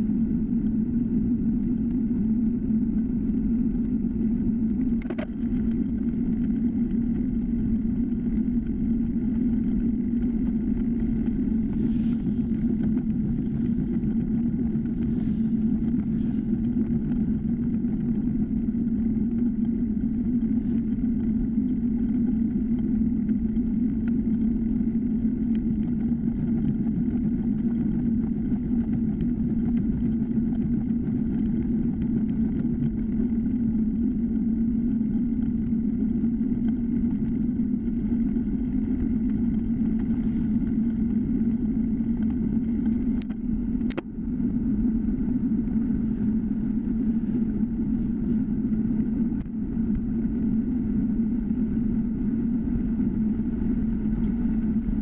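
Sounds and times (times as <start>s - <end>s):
wind and tyre rumble: 0.0s - 55.0s.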